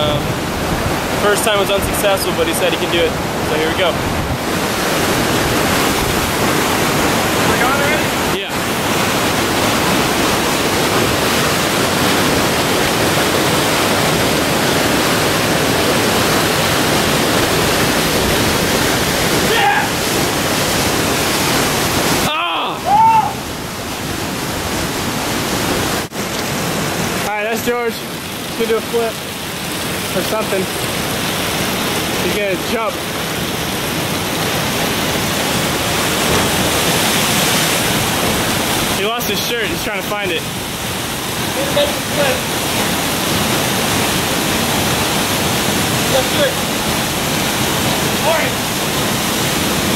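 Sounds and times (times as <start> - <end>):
water rushing over rocks: 0.0 - 49.9.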